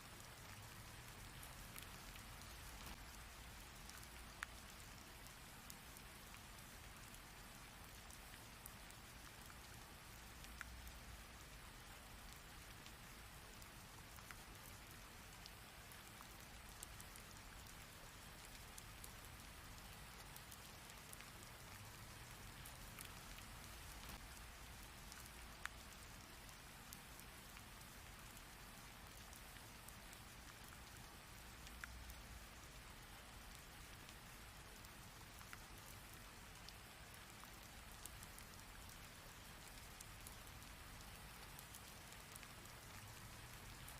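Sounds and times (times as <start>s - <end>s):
rain falling: 0.0s - 43.9s
raindrops ticking: 0.0s - 43.9s.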